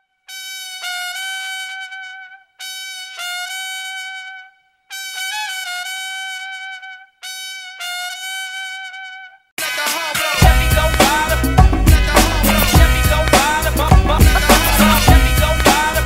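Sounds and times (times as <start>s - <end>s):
brass held notes: 0.2s - 16.0s.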